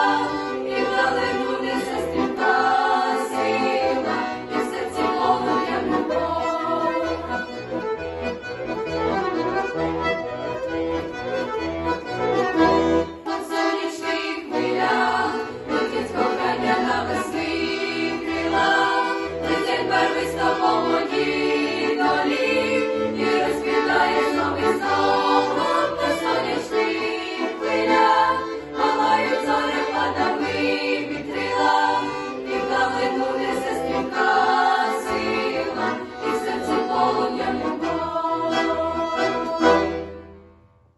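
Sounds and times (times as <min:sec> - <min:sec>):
group singing together: 0:00.0 - 0:07.5, 0:13.2 - 0:40.2.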